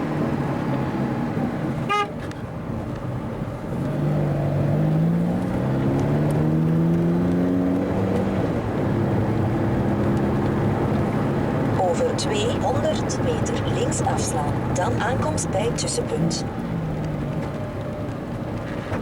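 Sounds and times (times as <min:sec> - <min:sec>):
car engine accelerating: 0:00.0 - 0:19.0
road noise: 0:00.0 - 0:19.0.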